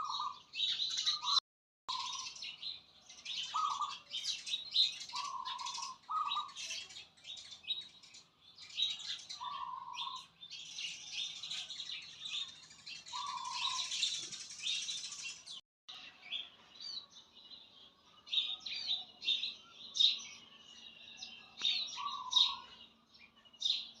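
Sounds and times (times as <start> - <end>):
birds chirping and singing: 0.0 - 24.0.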